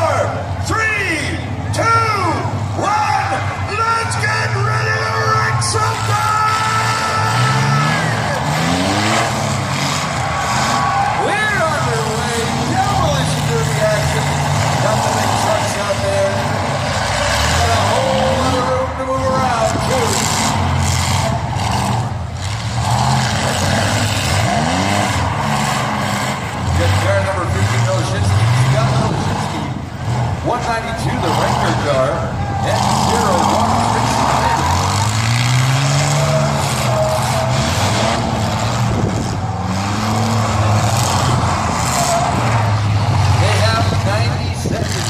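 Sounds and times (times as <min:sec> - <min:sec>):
truck engines revving: 0:00.0 - 0:45.0.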